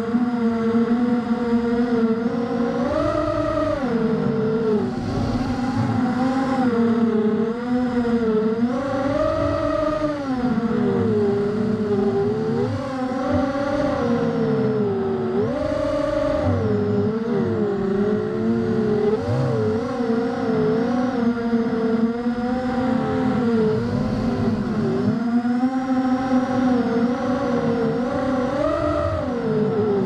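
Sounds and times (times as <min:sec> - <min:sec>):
racing drone motors whining: 0:00.0 - 0:30.0.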